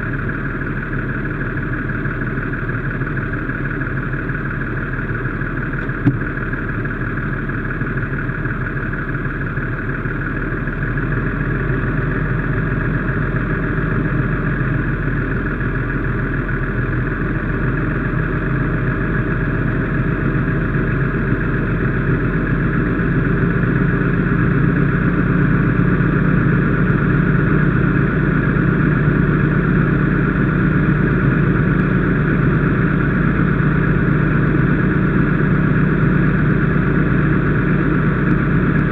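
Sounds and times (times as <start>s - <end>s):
fire engine running: 0.0s - 38.9s.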